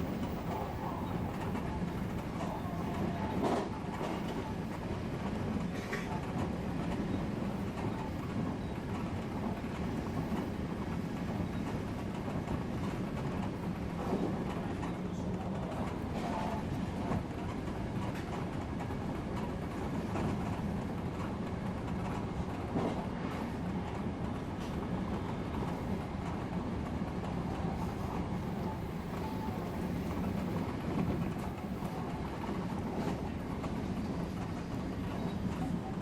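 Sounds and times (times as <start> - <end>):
electric train rumbling: 0.0 - 36.0.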